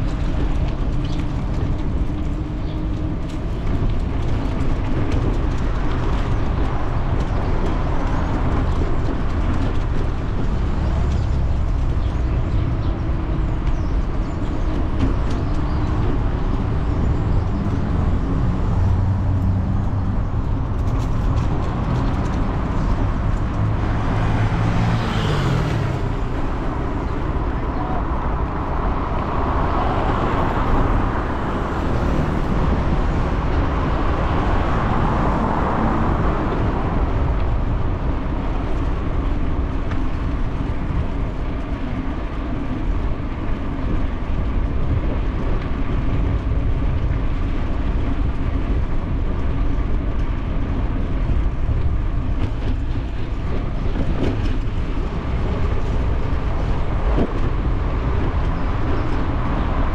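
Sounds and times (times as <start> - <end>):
bicycle tyre road noise: 0.0 - 59.9
wind rumbling on microphone: 0.0 - 59.9.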